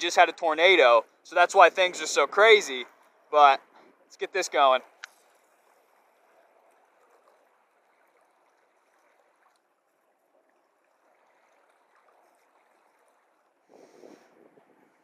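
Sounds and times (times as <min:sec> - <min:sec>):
faint wash of water: 0:00.6 - 0:15.0.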